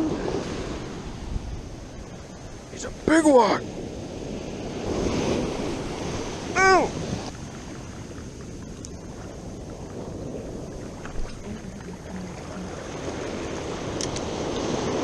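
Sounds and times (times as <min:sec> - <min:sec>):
ocean surf washing on beach: 0:00.0 - 0:15.0
wind on microphone: 0:00.0 - 0:15.0.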